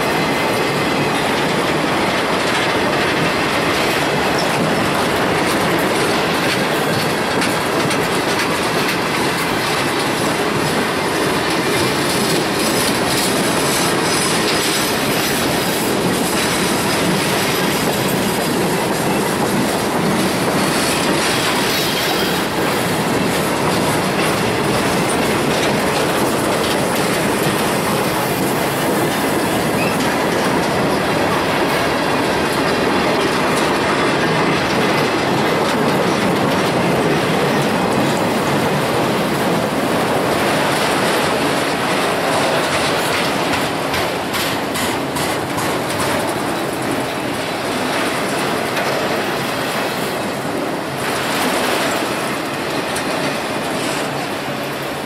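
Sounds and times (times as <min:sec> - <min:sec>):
train wheels rumbling on rails: 0:00.0 - 0:55.0
wheels clacking over rail joints: 0:00.0 - 0:55.0.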